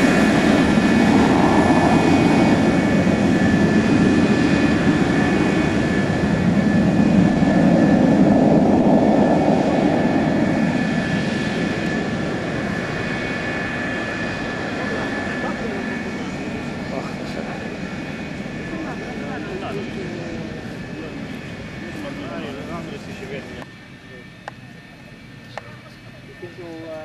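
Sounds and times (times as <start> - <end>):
jet engine rumble and whine: 0.0 - 27.0.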